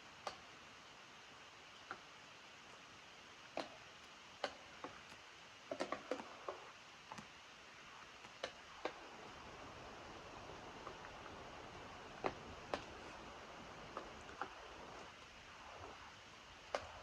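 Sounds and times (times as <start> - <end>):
faint hiss of rain: 0.0 - 17.0
raindrops dripping: 0.0 - 17.0.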